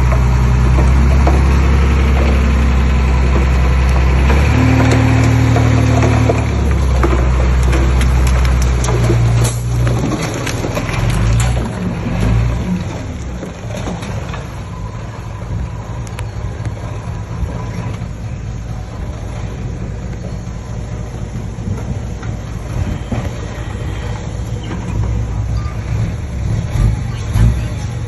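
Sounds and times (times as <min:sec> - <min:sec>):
diesel machinery engine drone: 0:00.0 - 0:28.0.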